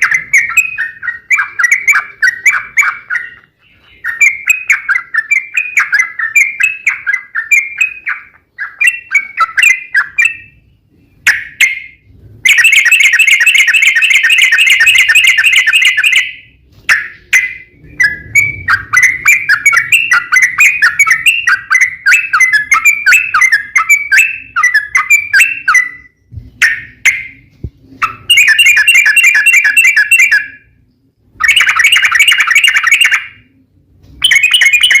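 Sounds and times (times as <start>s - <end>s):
bulbul chattering song: 0.0s - 33.6s, 34.2s - 35.0s.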